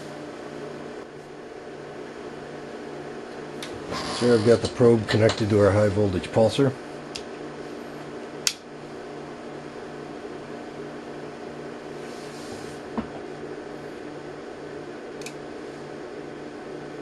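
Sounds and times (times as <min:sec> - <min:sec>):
electronics hum and fan noise: 0:00.0 - 0:17.0.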